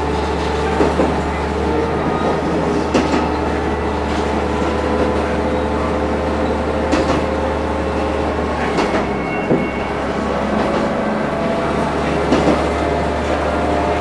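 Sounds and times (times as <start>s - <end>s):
diesel engine drone: 0.0s - 14.0s
train running noise: 0.0s - 14.0s
wheels clacking over track: 0.0s - 14.0s.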